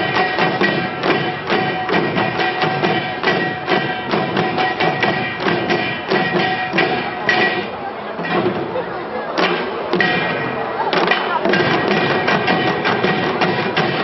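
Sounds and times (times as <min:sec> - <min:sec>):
hourglass drums played fast: 0:00.0 - 0:14.0.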